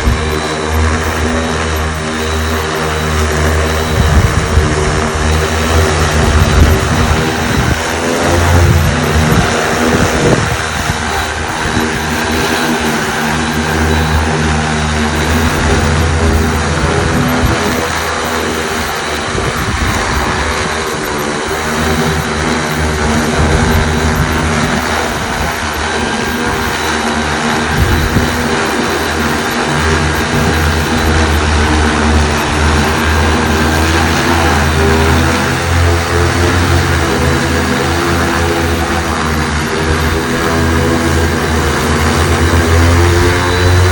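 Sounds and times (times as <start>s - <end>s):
drone propellers humming: 0.0s - 43.9s.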